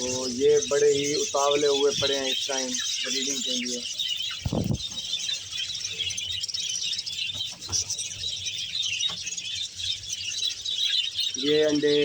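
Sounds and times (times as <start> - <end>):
budgerigars chattering and chirping: 0.0 - 12.0.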